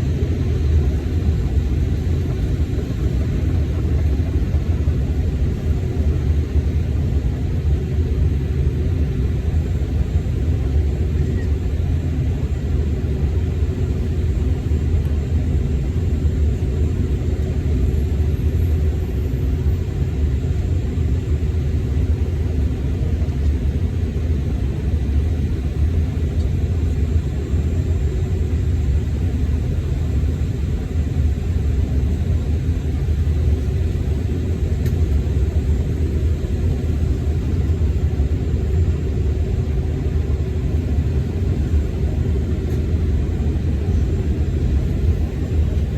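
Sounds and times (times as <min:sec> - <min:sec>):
faint steady hum: 0:00.0 - 0:45.9
jet engine and airflow rumble: 0:00.0 - 0:45.9.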